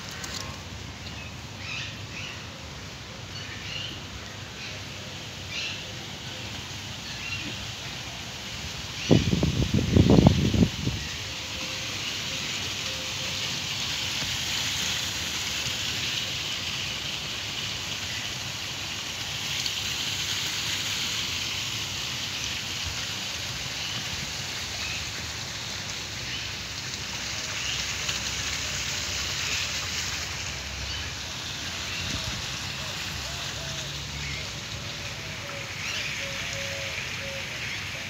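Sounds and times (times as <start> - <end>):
water feature splashing: 0.0 - 38.0.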